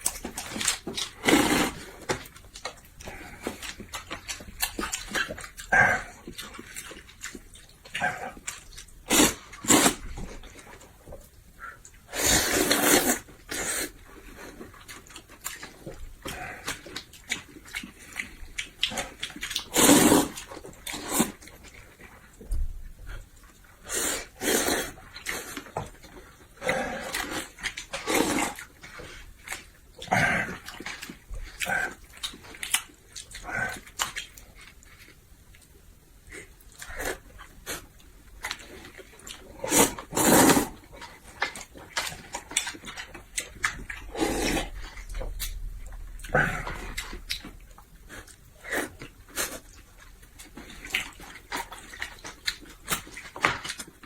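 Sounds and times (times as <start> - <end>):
chewing and mouth noise: 0.0 - 54.0.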